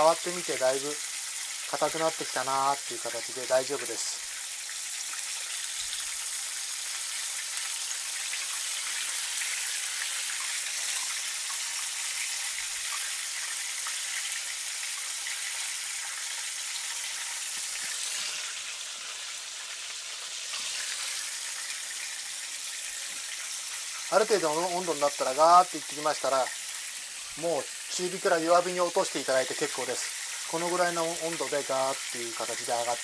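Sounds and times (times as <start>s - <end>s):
chicken deep-frying in oil: 0.0s - 33.0s.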